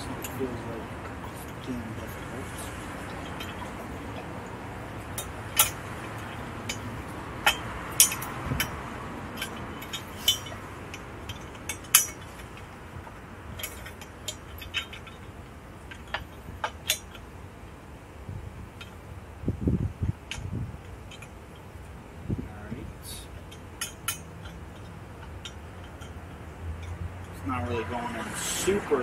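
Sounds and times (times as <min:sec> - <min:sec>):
metal bolts clicking and clinking: 0:00.0 - 0:17.4, 0:18.7 - 0:19.1, 0:20.1 - 0:22.0, 0:23.1 - 0:28.4.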